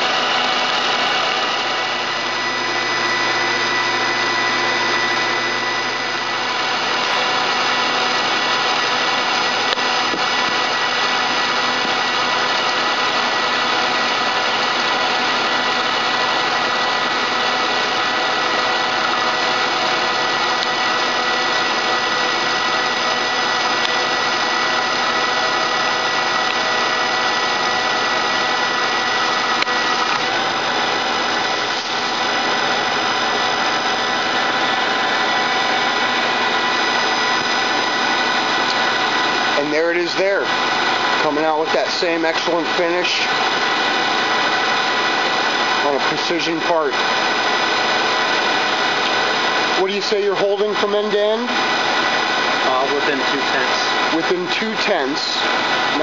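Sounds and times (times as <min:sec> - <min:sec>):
lathe running with whining tones: 0:00.0 - 0:56.0.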